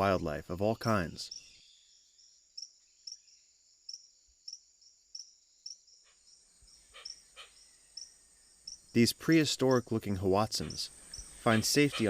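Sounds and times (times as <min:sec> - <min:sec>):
cricket-like chirp: 0:00.1 - 0:12.0
broader insect calls: 0:00.7 - 0:12.0
high insect trill: 0:01.3 - 0:12.0.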